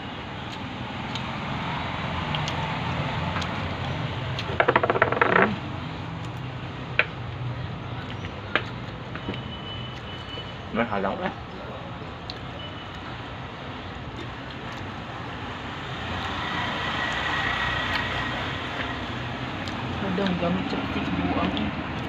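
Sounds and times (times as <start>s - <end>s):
street background noise with hum: 0.0s - 22.0s.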